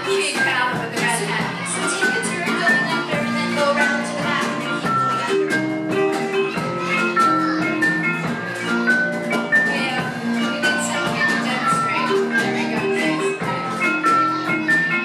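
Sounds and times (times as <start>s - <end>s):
bass: 0.0s - 15.0s
keyboard: 0.0s - 15.0s
small strummed string instrument: 0.0s - 15.0s
steady drum beat: 0.0s - 15.0s.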